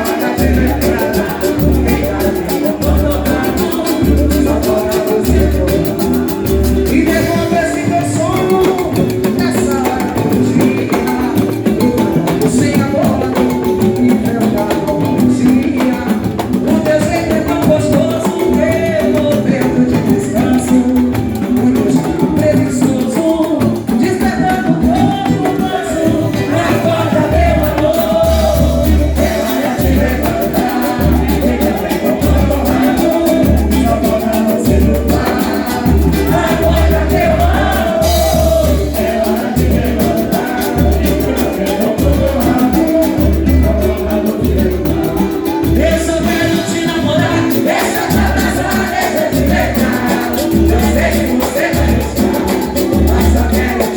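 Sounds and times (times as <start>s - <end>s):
person singing: 0.0s - 53.9s
samba band playing: 0.0s - 53.9s.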